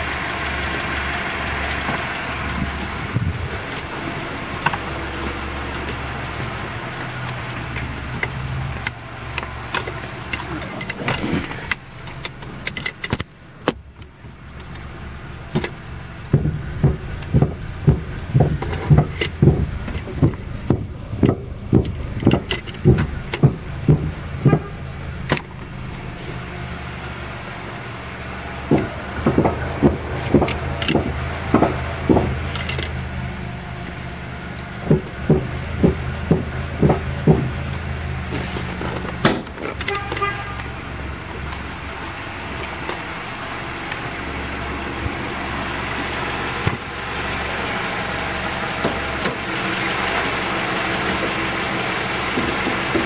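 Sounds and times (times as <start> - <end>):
low engine hum: 0.0 - 53.0
suspension strut clunking: 0.0 - 53.0.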